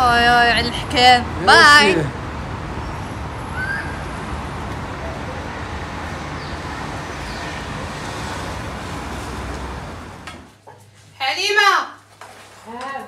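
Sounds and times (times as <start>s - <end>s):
road traffic: 0.0s - 11.1s.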